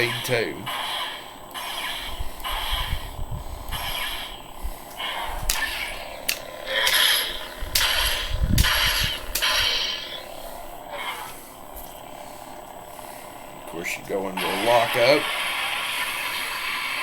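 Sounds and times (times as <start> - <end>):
toy lightsaber zaps: 0.0 - 11.9, 14.3 - 17.0.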